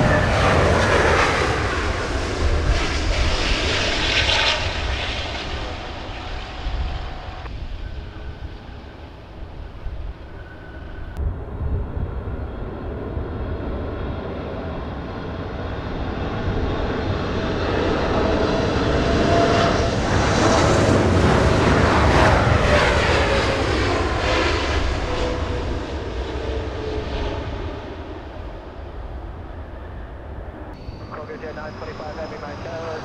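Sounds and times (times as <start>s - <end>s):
jet engine whine: 0.0s - 33.0s
jet passing overhead: 0.0s - 33.0s.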